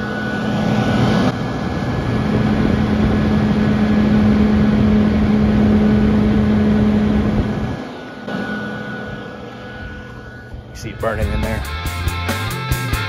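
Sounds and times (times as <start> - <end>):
air rushing through vent: 0.0 - 10.8
fan motor hum: 0.0 - 13.0.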